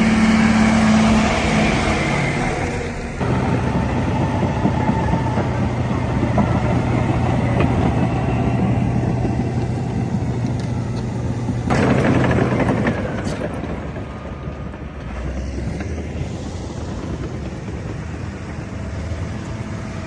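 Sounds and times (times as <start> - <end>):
construction machine engine running: 0.0 - 20.0
rushing noise: 0.0 - 20.0.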